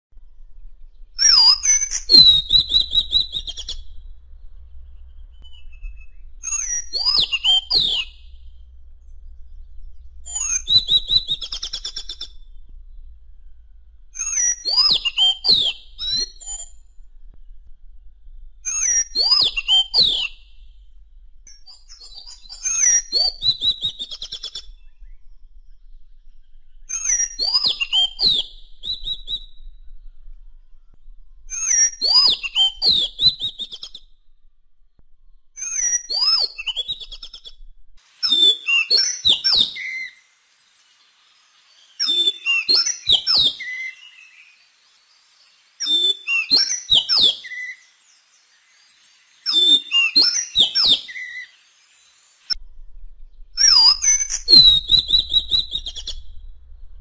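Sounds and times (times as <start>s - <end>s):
bird singing whistled trills: 0.2s - 57.0s.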